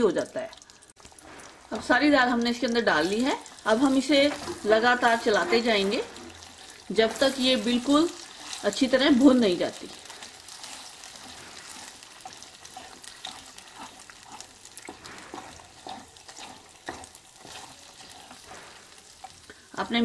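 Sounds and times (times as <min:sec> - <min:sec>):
paste sizzling in ghee: 0:00.0 - 0:20.0
wooden spatula scraping pan: 0:03.0 - 0:20.0.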